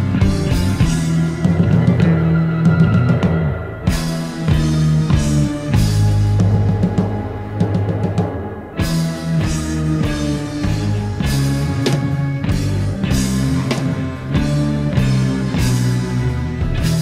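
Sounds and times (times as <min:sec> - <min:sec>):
rock music: 0:00.0 - 0:17.0.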